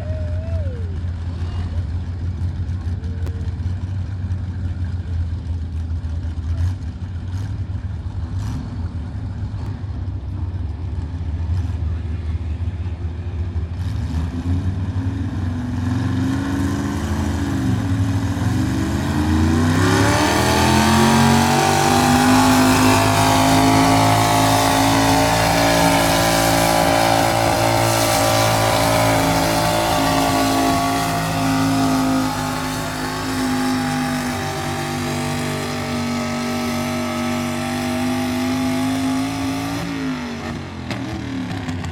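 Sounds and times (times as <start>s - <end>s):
truck engine at full throttle: 0.0s - 41.9s.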